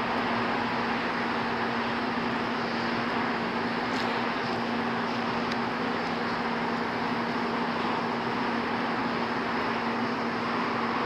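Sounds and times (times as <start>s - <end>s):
distant jet engines roaring: 0.0s - 11.0s.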